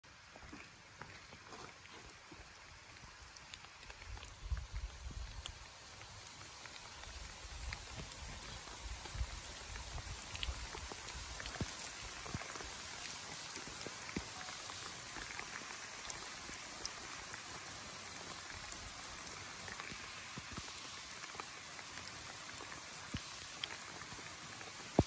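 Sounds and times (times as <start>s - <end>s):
faint crackles and ticks: 0.0s - 25.0s
steady outdoor hiss: 0.0s - 25.0s.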